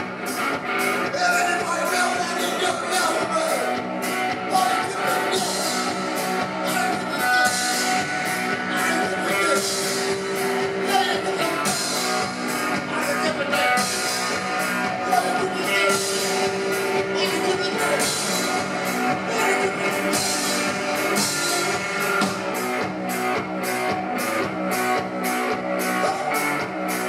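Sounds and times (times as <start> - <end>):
rock and roll band playing: 0.0 - 27.0
man singing: 1.1 - 22.4, 25.9 - 26.7.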